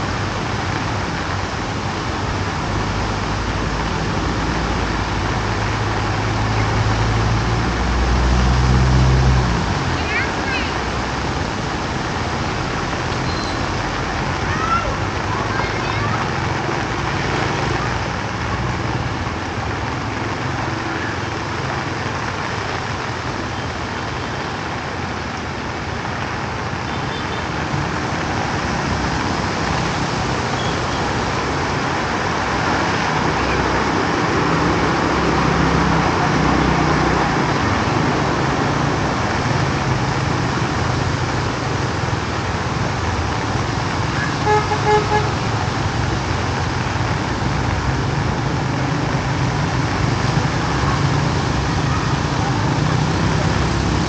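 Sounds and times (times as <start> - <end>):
heavy rain hissing: 0.0 - 54.0
road traffic: 0.0 - 54.0.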